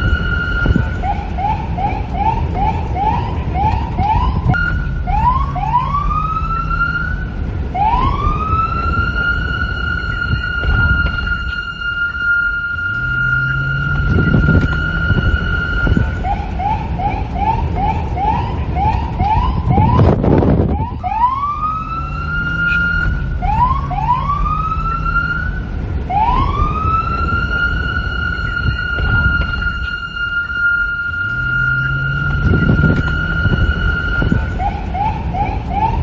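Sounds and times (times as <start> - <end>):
low wind rumble: 0.0 - 36.0
police car siren: 0.0 - 36.0.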